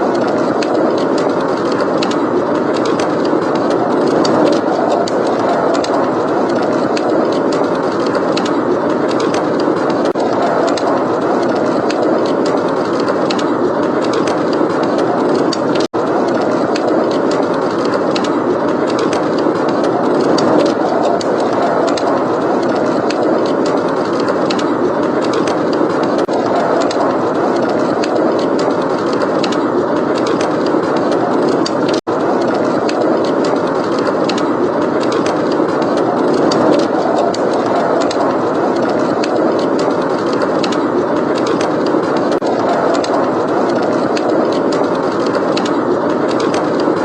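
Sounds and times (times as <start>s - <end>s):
blizzard wind rushing: 0.0s - 47.0s.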